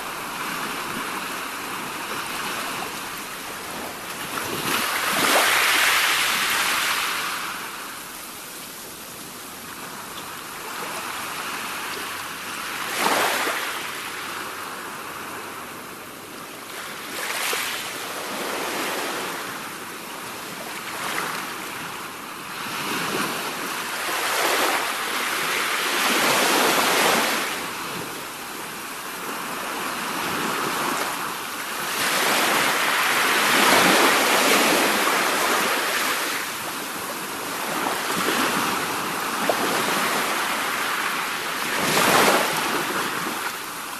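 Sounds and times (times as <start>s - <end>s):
sea waves washing in: 0.0s - 14.6s, 22.6s - 43.9s.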